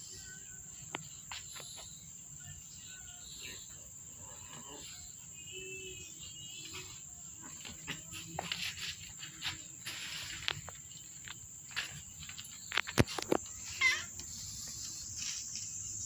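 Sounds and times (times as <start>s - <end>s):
high-pitched insect drone: 0.0s - 16.0s
wavering insect chirp: 0.0s - 16.0s.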